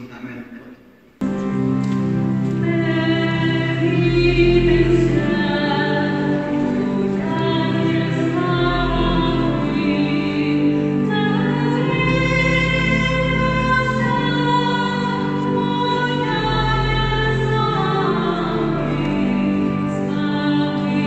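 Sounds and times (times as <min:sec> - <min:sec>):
slow music with held notes: 0:01.2 - 0:21.0.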